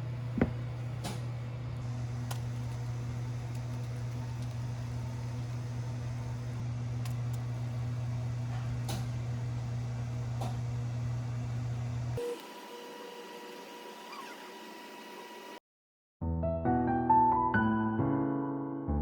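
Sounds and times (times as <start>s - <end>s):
low mechanical hum: 0.0s - 15.6s.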